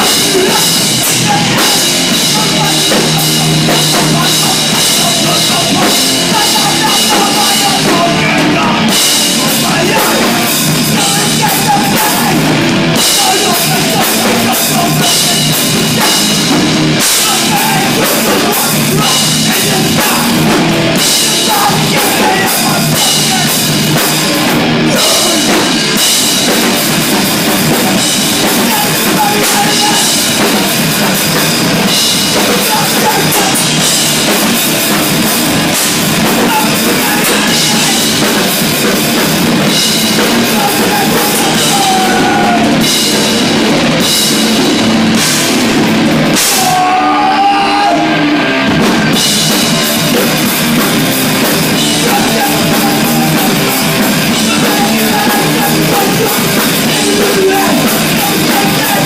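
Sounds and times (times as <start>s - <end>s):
distorted electric guitar: 0.0s - 59.0s
drum kit: 0.0s - 59.0s
vocals: 0.0s - 59.0s.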